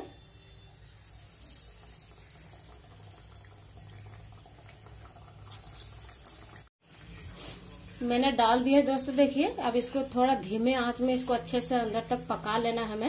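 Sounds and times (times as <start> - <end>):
oil sizzling: 0.7 - 13.0.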